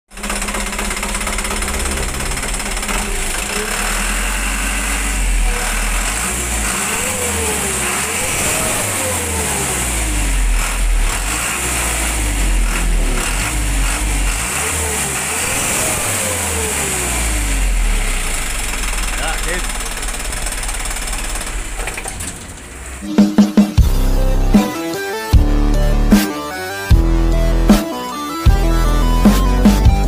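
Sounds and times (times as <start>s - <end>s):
diesel engine revving: 0.0s - 30.0s.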